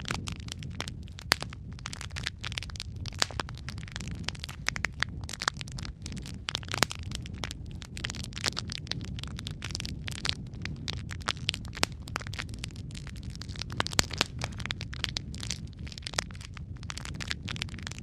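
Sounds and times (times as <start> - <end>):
fire flames rumbling: 0.0 - 18.0
fire popping and snapping: 0.0 - 18.0.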